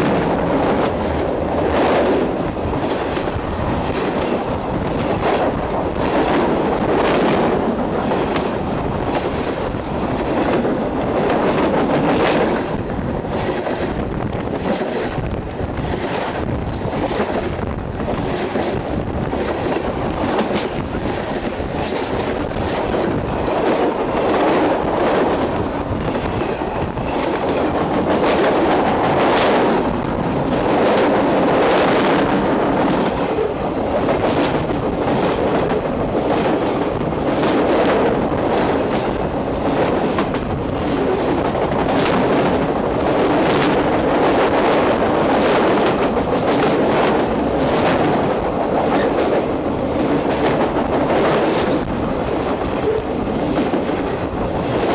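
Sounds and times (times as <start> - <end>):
train wheels rumbling on rails: 0.0 - 54.9
wheels clicking over rail joints: 0.0 - 54.9.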